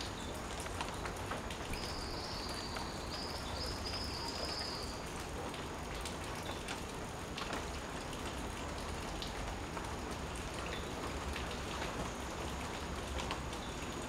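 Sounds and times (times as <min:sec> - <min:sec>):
rain pattering on leaves: 0:00.0 - 0:14.0.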